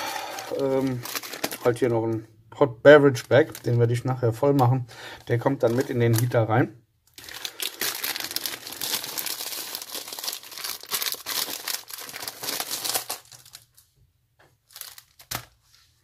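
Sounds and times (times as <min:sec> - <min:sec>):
plastic packets crinkling: 0:00.0 - 0:02.2, 0:03.1 - 0:04.0, 0:04.6 - 0:06.5, 0:07.1 - 0:13.9, 0:14.5 - 0:15.7.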